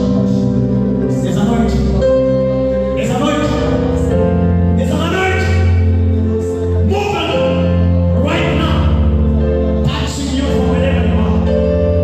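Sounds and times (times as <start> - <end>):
gospel music with singing: 0.0 - 12.0
steady bass: 0.0 - 12.0.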